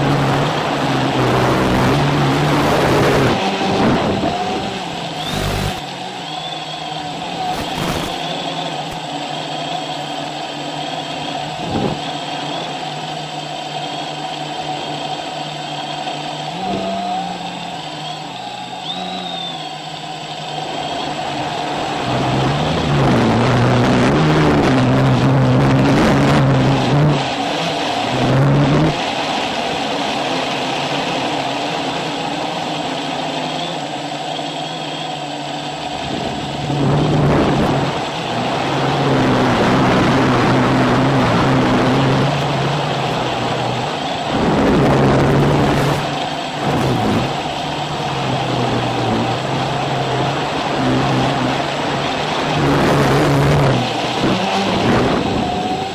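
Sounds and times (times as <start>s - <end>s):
quadcopter motors whining: 0.0s - 24.0s, 25.8s - 39.2s, 40.0s - 55.9s.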